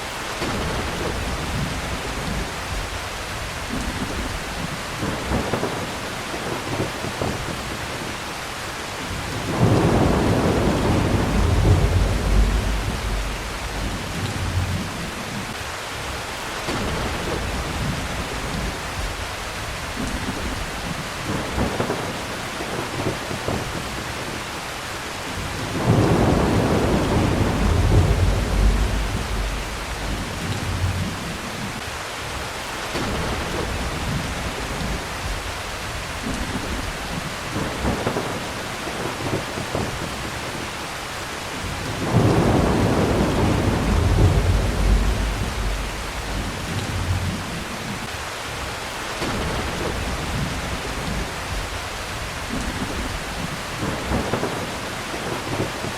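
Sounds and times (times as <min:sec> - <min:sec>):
heavy rain: 0:00.0 - 0:55.9
thunder rumbling: 0:00.4 - 0:08.2, 0:09.1 - 0:15.6, 0:16.7 - 0:24.5, 0:25.3 - 0:40.7, 0:41.6 - 0:48.2, 0:49.2 - 0:55.9.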